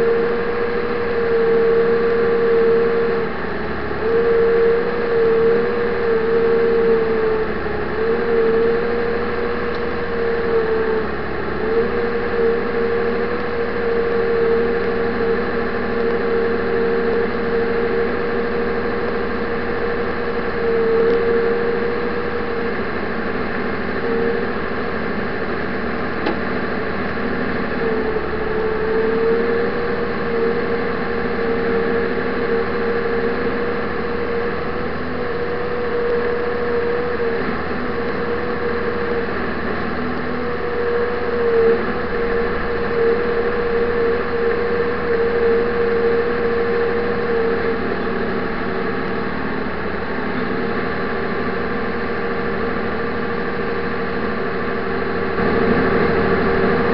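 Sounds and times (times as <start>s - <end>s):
steady whine: 0.0s - 56.9s
tracked vehicle engine running: 0.0s - 56.9s.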